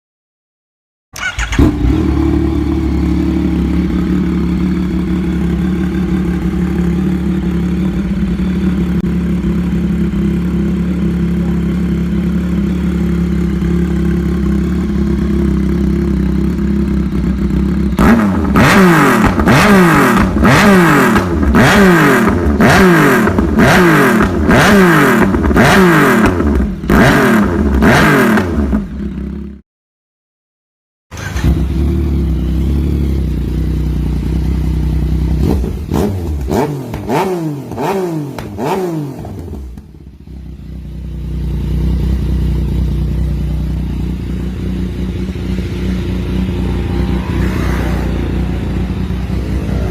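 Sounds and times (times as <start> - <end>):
motorcycle engine idling: 1.2 - 27.0, 31.1 - 49.9
motorcycle engine starting: 1.2 - 29.5, 31.1 - 49.9
motorcycle engine revving: 1.2 - 29.6, 31.1 - 49.9.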